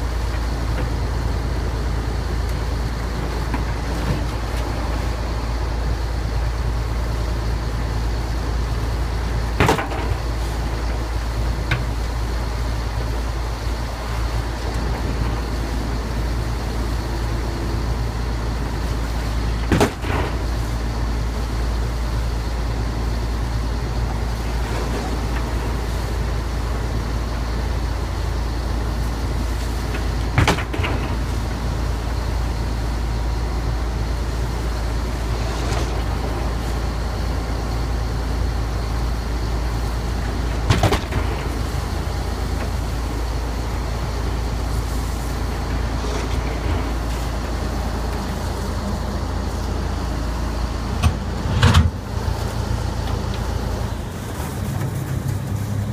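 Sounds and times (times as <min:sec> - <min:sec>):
boat engine droning: 0:00.0 - 0:55.9
wind and wake rushing: 0:00.0 - 0:55.9.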